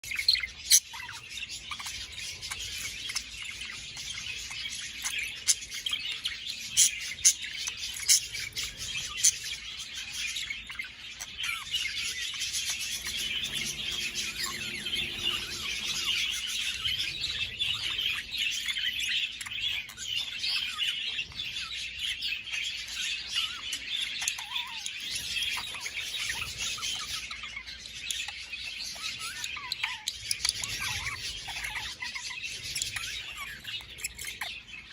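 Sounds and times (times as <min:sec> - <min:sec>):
budgerigars chattering and warbling: 0:00.1 - 0:34.9.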